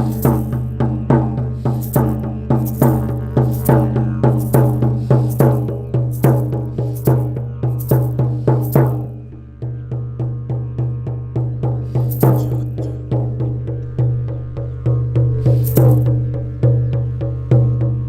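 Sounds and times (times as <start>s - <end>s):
low sustained drone: 0.0s - 17.5s
drum struck in steady beat: 0.0s - 18.0s.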